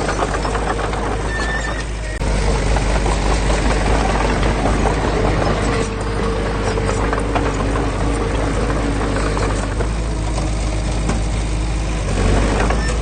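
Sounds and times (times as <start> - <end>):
heavy machinery diesel engine: 0.0 - 13.0.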